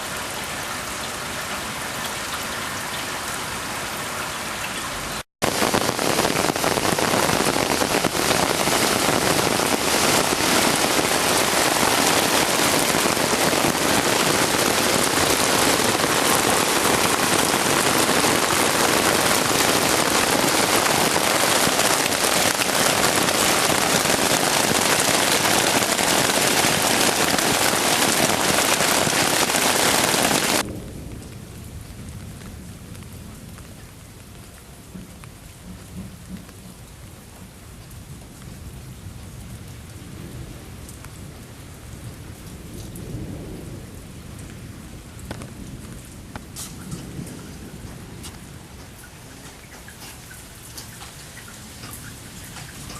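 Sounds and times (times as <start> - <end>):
heavy rain pouring: 0.0 - 52.9.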